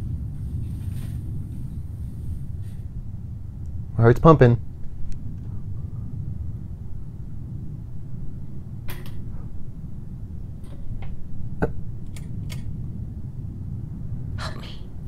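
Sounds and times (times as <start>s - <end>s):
low droning soundtrack hum: 0.0s - 15.0s.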